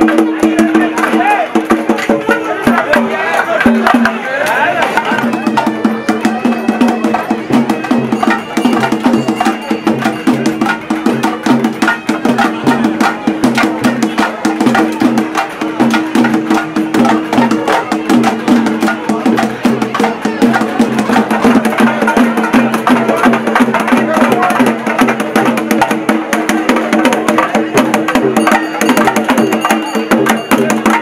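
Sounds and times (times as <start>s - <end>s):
fast dense drumming: 0.0s - 31.0s.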